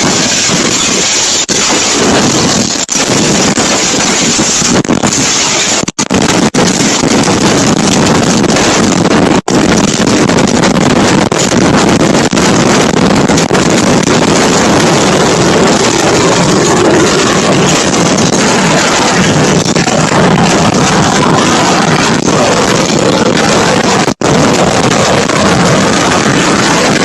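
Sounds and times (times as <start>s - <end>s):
storm wind on microphone: 0.0s - 27.0s.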